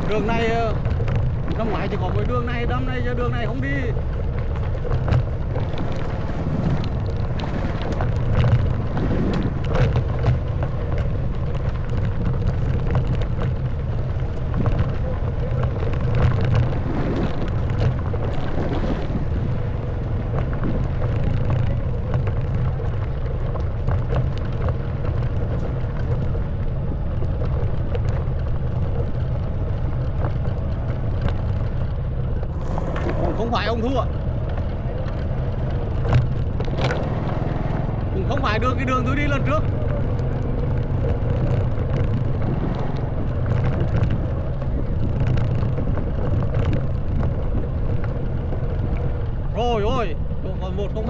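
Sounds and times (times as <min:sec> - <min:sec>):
motorbike engine running: 0:00.0 - 0:51.0
wind buffeting microphone: 0:00.0 - 0:51.0.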